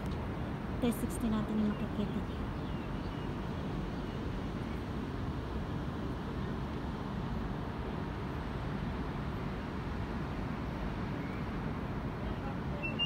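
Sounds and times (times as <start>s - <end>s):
city background rumble: 0.0s - 13.0s.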